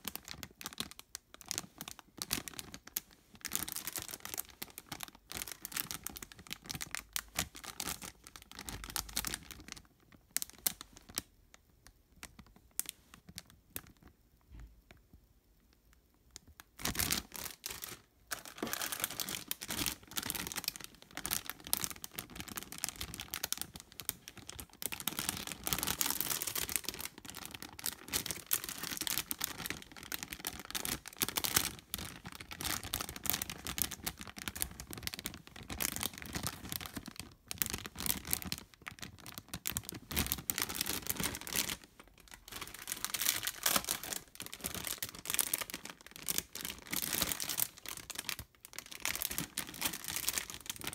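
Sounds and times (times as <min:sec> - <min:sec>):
plastic bags crinkling: 0:00.0 - 0:11.3, 0:16.7 - 0:50.9.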